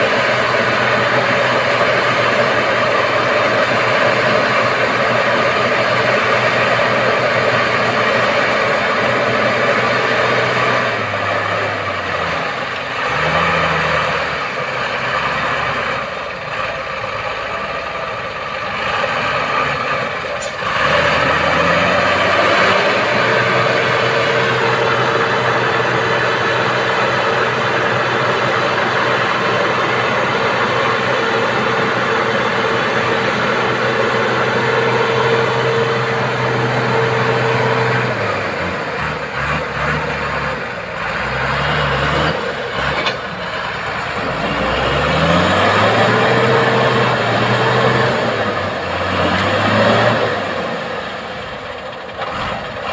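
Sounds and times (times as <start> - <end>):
diesel truck engine labouring: 0.0 - 52.9
high engine whine: 0.0 - 52.9.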